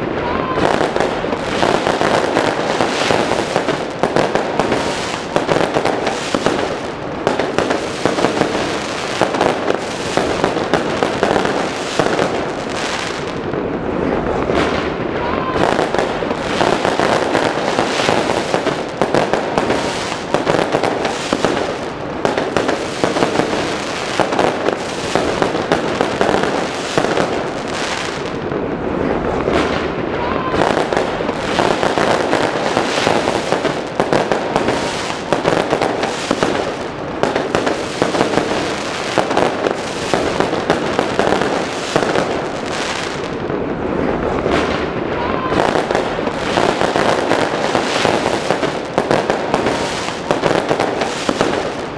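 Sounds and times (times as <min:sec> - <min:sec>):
fireworks rapid bangs and crackles: 0:00.0 - 0:51.9.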